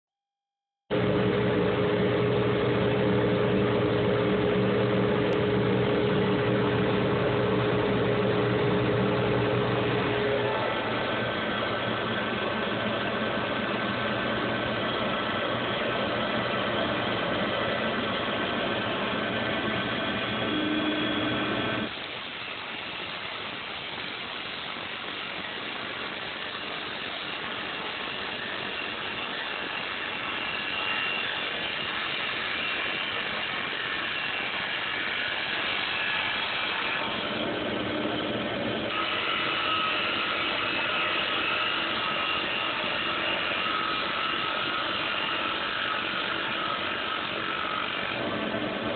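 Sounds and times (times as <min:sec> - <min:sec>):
lathe humming and whining: 0:00.9 - 0:48.9.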